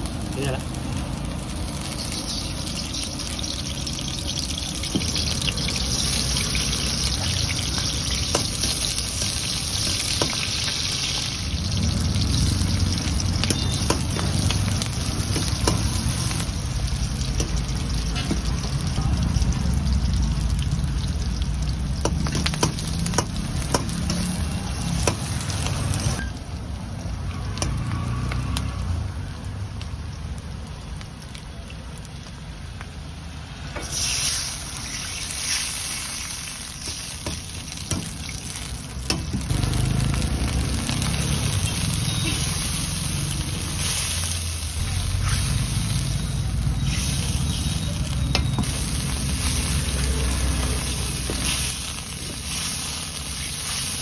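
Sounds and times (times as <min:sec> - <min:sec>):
water hissing in hot oil: 0:00.0 - 0:26.2, 0:33.3 - 0:54.0
food sizzling in hot oil: 0:00.0 - 0:54.0.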